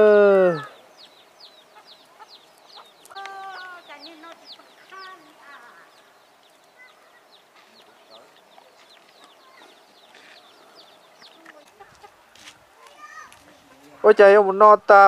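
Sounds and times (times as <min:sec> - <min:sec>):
chickens clucking: 0:00.5 - 0:14.3.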